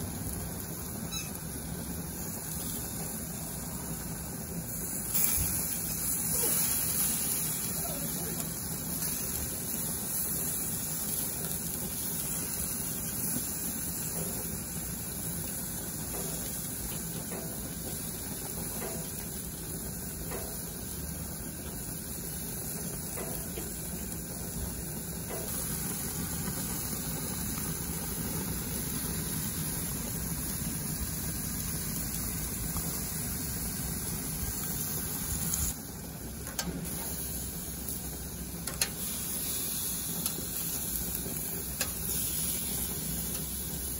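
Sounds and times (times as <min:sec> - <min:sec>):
skewers sizzling on grill: 0:00.0 - 0:43.9.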